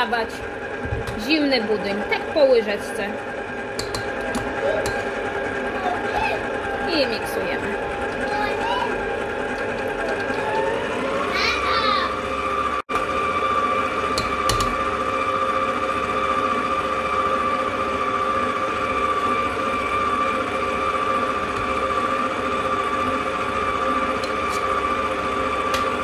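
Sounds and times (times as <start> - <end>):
stand mixer running: 0.0 - 26.0.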